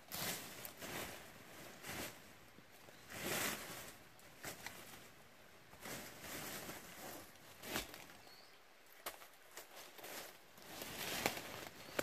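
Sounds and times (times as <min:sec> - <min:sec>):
brambles and leaves rustling: 0:00.0 - 0:12.0.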